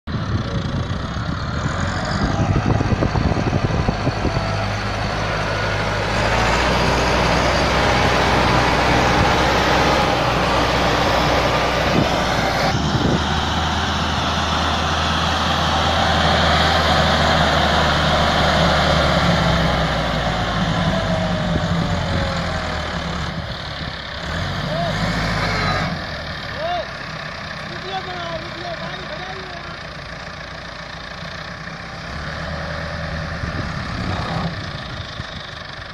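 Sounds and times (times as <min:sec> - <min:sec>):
tractor diesel engine under load: 0:00.0 - 0:35.9.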